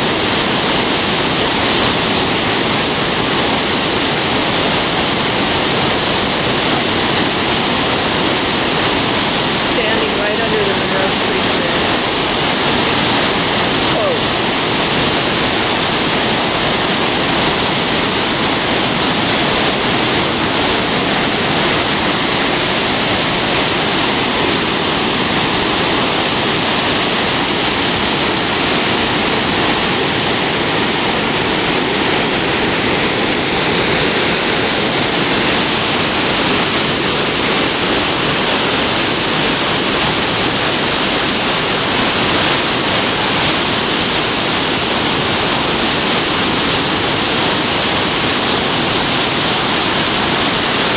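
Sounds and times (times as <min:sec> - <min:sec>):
water rushing over a dam: 0:00.0 - 0:50.9.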